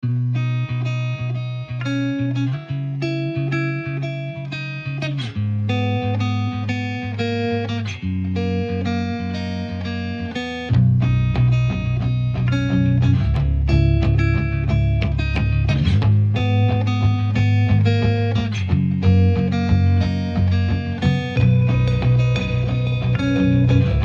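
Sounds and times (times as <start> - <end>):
background music led by guitar: 0.0 - 24.0.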